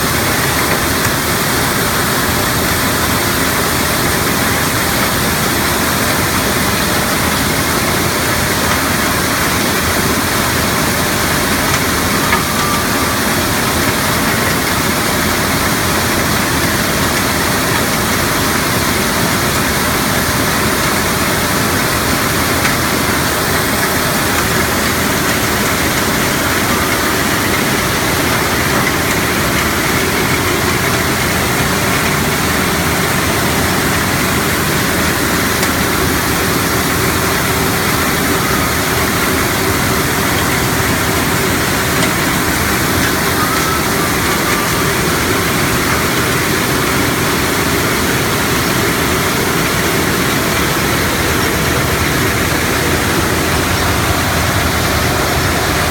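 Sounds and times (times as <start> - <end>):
gravel crushing machinery: 0.0 - 55.9.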